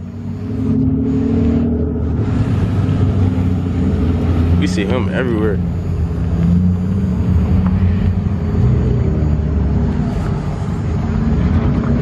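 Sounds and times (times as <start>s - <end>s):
car engine deep rumble: 0.0s - 12.0s.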